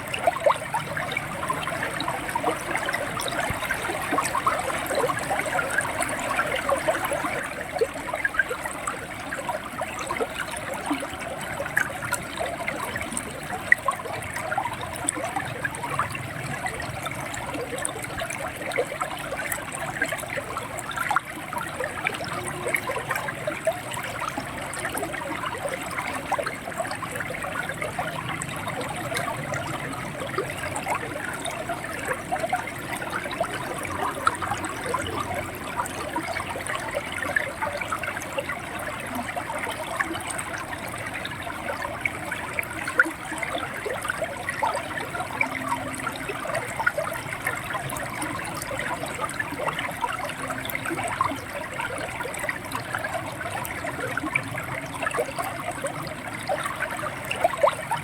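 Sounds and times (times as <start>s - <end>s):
river water gurgling over stones: 0.0s - 58.0s.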